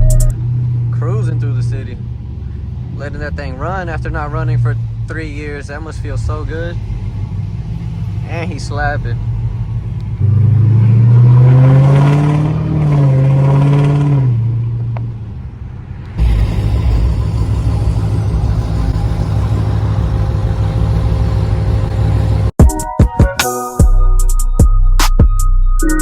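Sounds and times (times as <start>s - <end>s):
car engine revving: 0.0s - 22.6s
engine and road drone: 0.0s - 22.6s.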